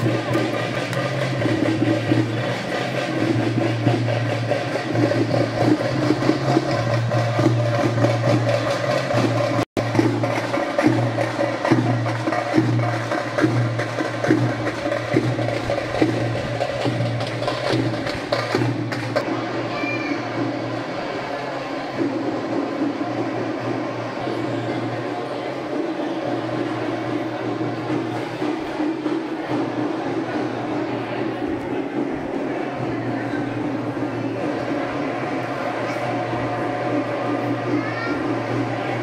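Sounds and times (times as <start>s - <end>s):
rapid drum strikes: 0.0s - 19.7s, 21.8s - 39.0s.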